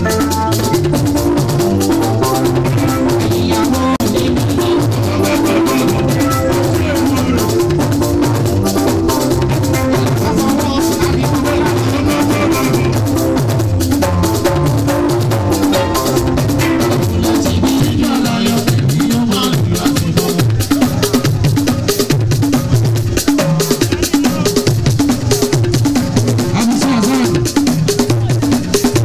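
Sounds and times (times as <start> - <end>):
instrumental music with drums: 0.0 - 29.0.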